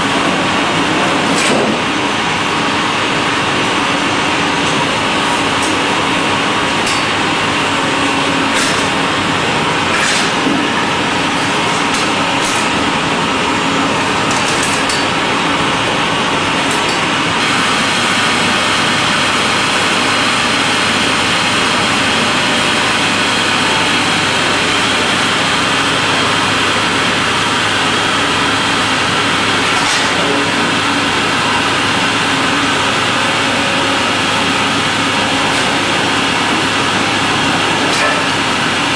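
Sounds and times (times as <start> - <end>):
mill machinery humming: 0.0 - 38.9.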